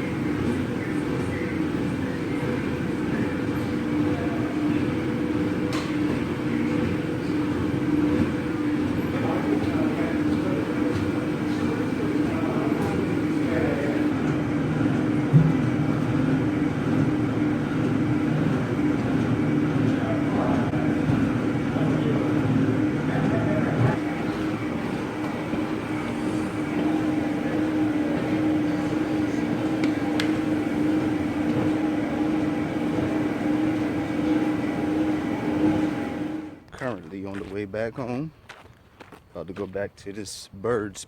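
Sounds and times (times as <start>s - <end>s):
stair climber machine humming: 0.0s - 36.8s.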